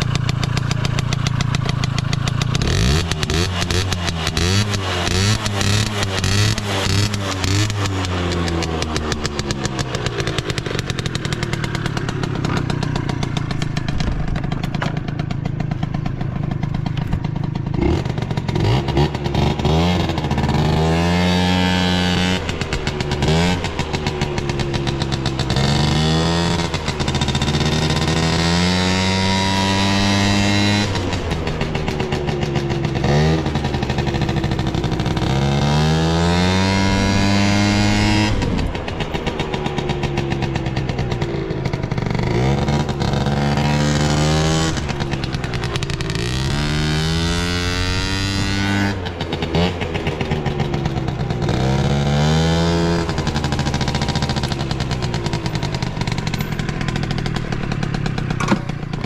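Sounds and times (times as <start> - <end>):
scooter engine idling and revving: 0.0 - 59.0.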